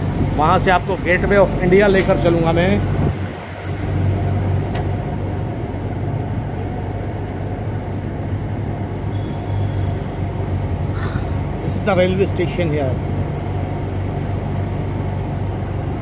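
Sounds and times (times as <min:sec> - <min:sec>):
train coach hum: 0:00.0 - 0:16.0.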